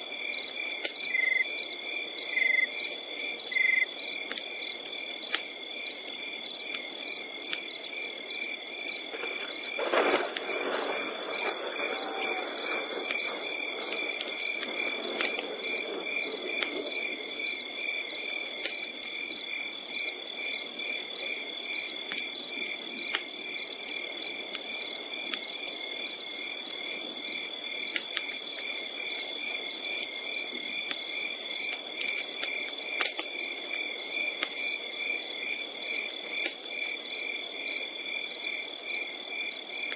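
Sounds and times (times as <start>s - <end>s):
campfire crackling and popping: 0.0s - 39.9s
insects chirping: 0.0s - 39.9s.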